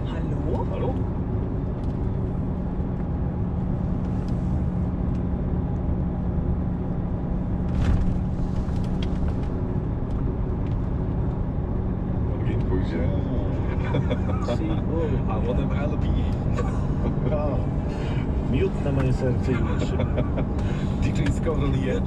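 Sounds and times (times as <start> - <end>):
road rumble: 0.0 - 22.0
truck engine humming: 0.0 - 22.0.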